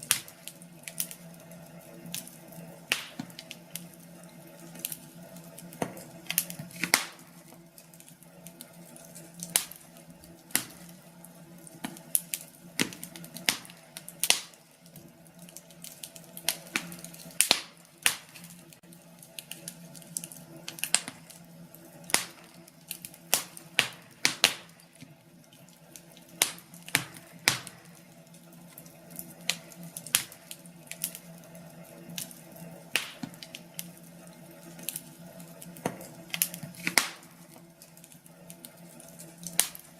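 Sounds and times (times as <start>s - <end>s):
fire crackling and popping: 0.0s - 39.9s
low steady hum: 0.0s - 39.9s.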